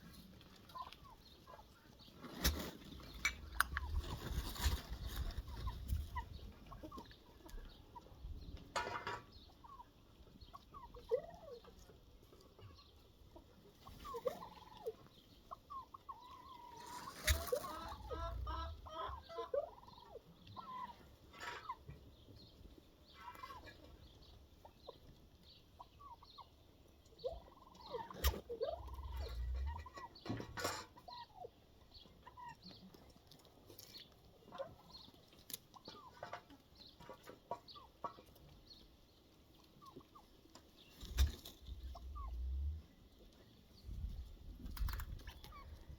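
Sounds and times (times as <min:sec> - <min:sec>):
poultry clucking and chirping: 0:00.0 - 0:45.9.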